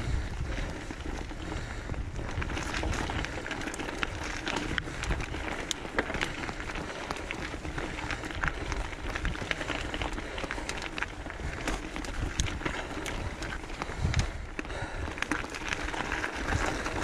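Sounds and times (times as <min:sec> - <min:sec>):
bike tyres crunching on gravel: 0:00.0 - 0:17.0.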